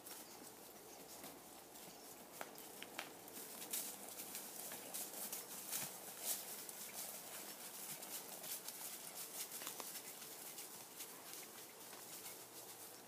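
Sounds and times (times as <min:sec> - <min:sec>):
hooves crunching dry leaves: 0:00.0 - 0:13.0.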